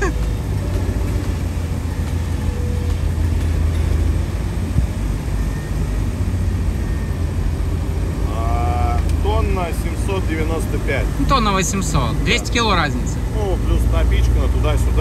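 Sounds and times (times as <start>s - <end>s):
car engine drone in cabin: 0.0s - 15.0s
road noise: 0.0s - 15.0s.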